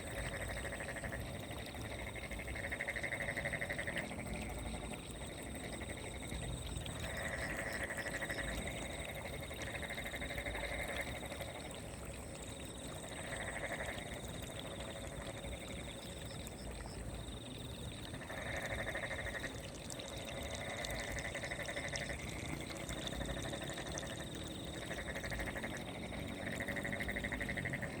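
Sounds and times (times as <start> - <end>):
frogs trilling: 0.0 - 28.0.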